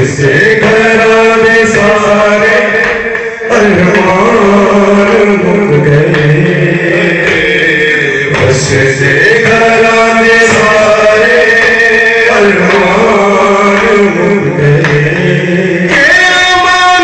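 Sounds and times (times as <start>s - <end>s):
men chanting a mourning lament: 0.0s - 17.0s.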